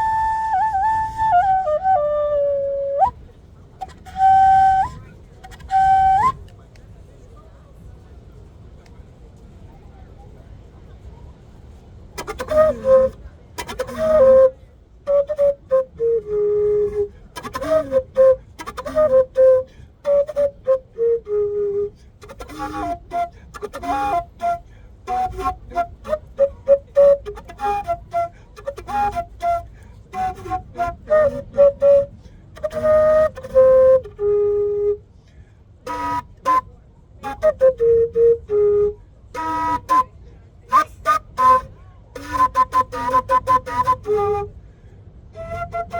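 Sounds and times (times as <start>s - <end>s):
cane flute playing a tune: 0.0s - 7.4s, 11.0s - 45.9s.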